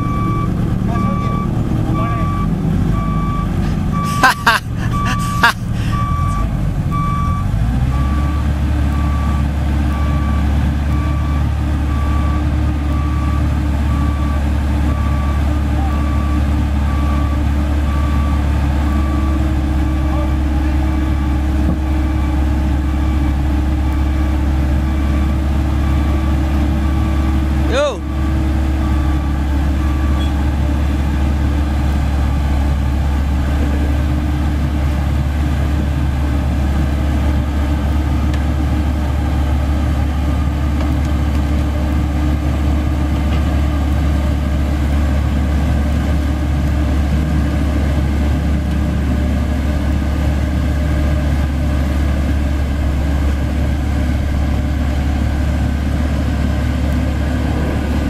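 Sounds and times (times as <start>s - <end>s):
roller diesel engine running: 0.0s - 58.0s.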